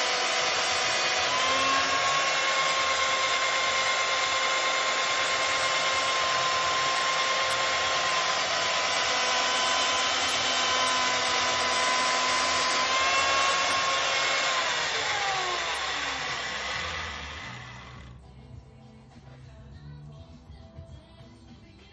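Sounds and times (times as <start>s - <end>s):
chain mortiser whining: 0.0s - 18.1s
motor spinning down: 0.0s - 18.2s.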